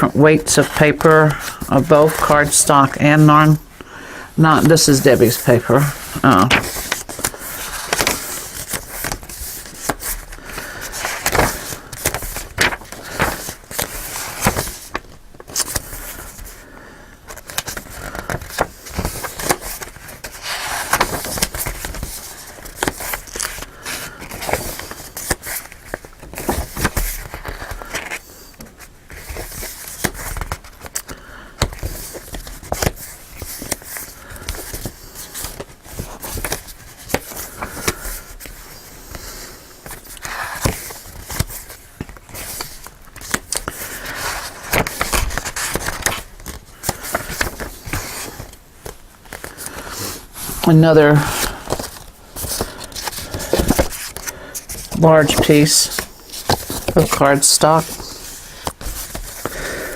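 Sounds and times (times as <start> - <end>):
paper rustling: 0.1 - 3.6, 4.4 - 59.9.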